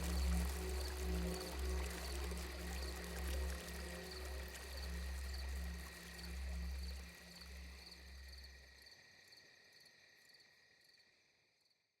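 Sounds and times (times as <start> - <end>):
crickets chirping: 0.0 - 11.8.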